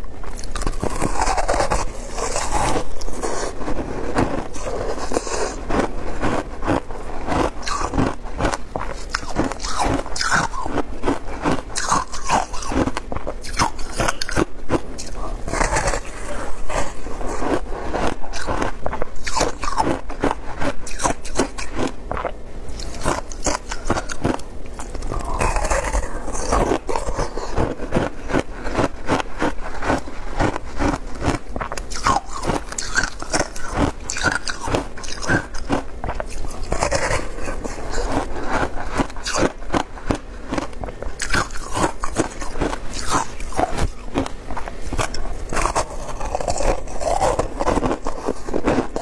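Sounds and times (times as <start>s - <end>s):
crunching ice while chewing: 0.0s - 49.0s.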